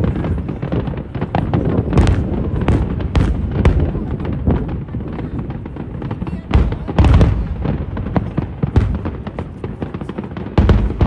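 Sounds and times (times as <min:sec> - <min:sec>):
fireworks cracking: 0:00.0 - 0:11.0
low rumble of fireworks booms: 0:00.0 - 0:11.0.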